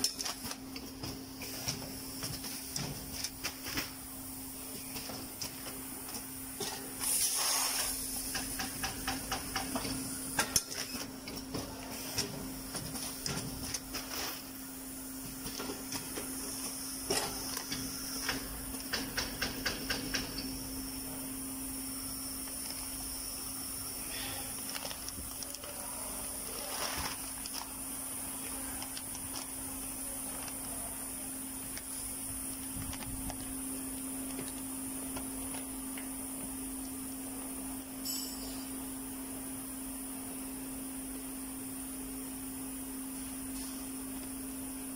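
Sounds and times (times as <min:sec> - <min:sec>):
packing machine humming: 0:00.0 - 0:44.9.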